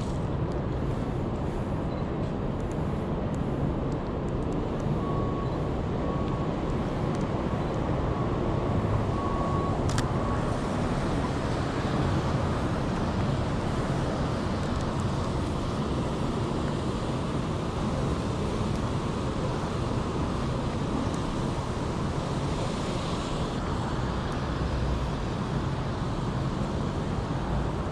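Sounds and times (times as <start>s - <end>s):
traffic roar: 0.0s - 27.9s.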